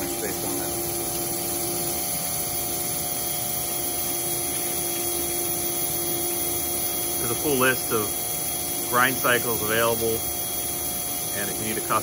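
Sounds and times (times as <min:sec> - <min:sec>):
grinder grinding with coolant: 0:00.0 - 0:12.0.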